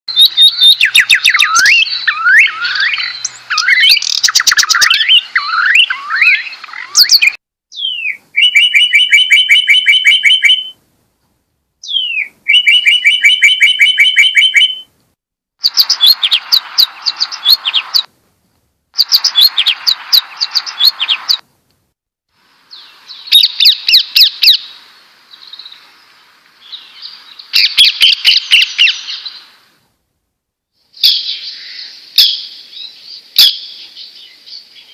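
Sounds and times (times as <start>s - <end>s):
songbird chirps and trills: 0.1s - 10.8s, 11.8s - 14.9s, 15.6s - 18.1s, 19.0s - 21.5s, 22.5s - 29.8s, 30.9s - 34.9s.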